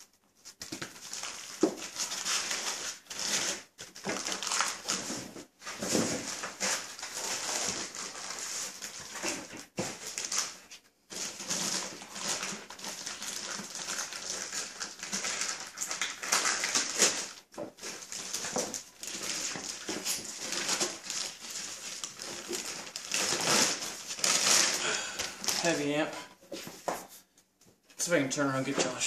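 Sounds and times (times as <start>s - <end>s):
plastic bag crinkling: 0.9s - 26.3s.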